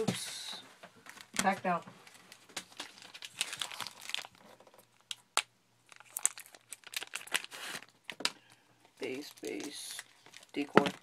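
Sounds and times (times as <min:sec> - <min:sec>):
card pack wrapper crinkling and tearing: 0:01.1 - 0:11.0.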